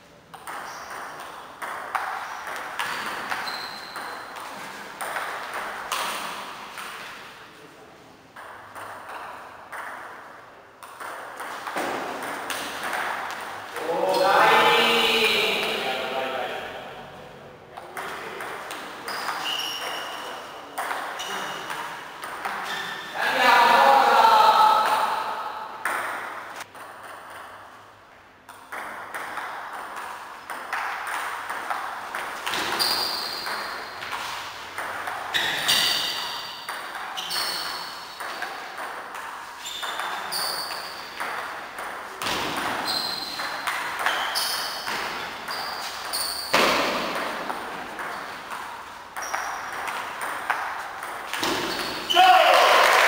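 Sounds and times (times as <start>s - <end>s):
table tennis ball rally: 0.2s - 7.4s, 8.3s - 16.9s, 17.8s - 27.8s, 28.4s - 53.0s.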